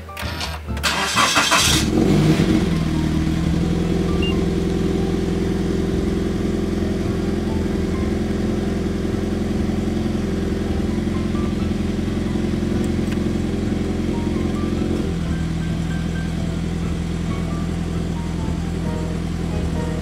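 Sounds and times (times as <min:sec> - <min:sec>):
car engine starting and idling: 0:00.0 - 0:20.0.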